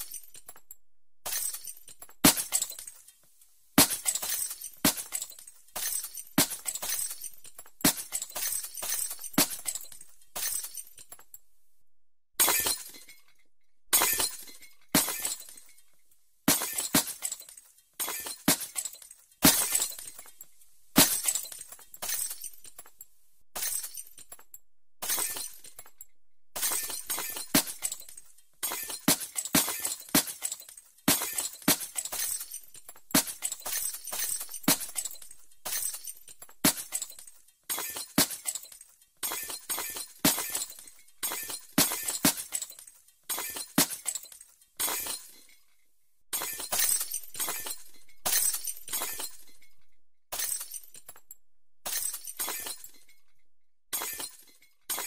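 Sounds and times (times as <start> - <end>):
glass smashing: 0.0 - 3.1, 3.8 - 11.4, 12.4 - 23.0, 23.6 - 45.7, 46.3 - 55.0
glass shards tinkling: 0.0 - 11.4, 12.4 - 45.8, 46.4 - 53.4, 54.0 - 55.0.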